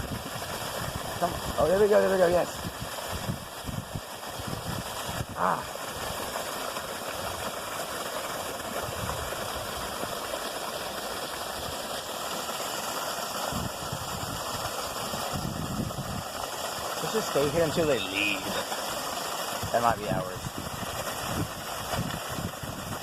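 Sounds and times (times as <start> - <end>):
creek water pouring over fall: 0.0 - 23.0.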